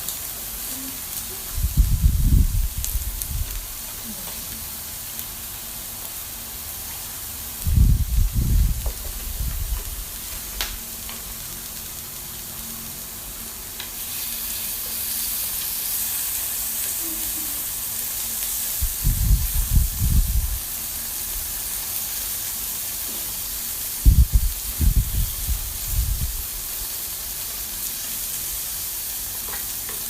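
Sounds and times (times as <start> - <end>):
meat sizzling on a grill: 0.0 - 30.0.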